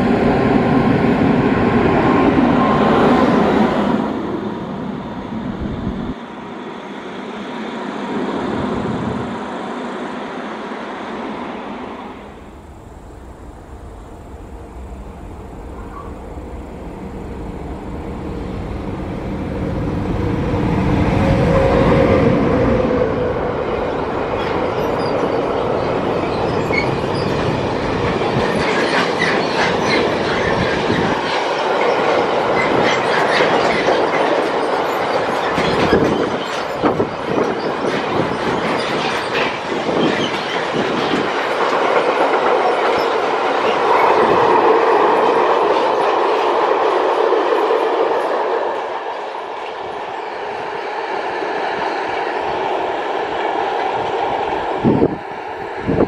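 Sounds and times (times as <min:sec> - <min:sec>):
electric locomotive passing: 0:00.0 - 0:56.0.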